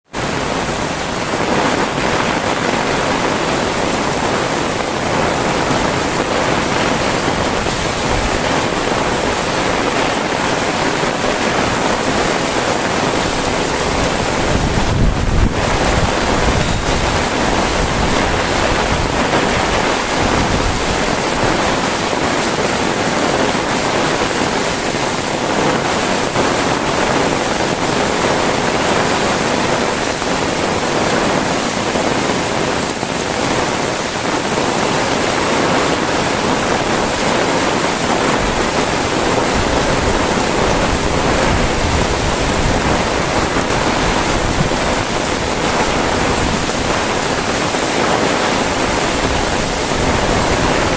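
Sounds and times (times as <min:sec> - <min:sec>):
heavy rain falling: 0:00.0 - 0:50.9
wind rumbling on microphone: 0:00.1 - 0:50.9.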